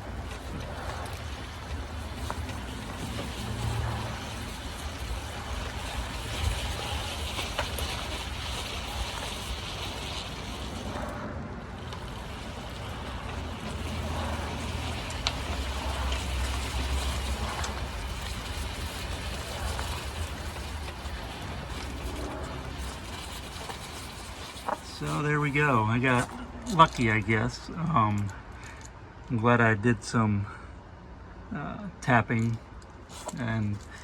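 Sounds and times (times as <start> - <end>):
car tyres rolling: 0.0 - 30.2.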